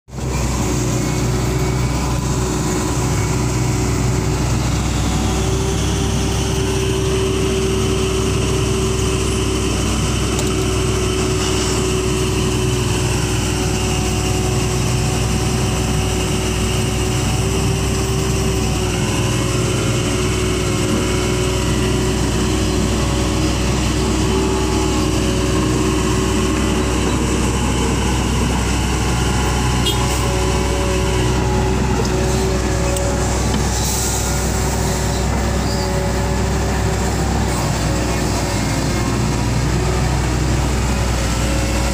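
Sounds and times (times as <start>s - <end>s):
excavator diesel engine running: 0.1s - 41.9s
hydraulic whine: 0.1s - 41.9s.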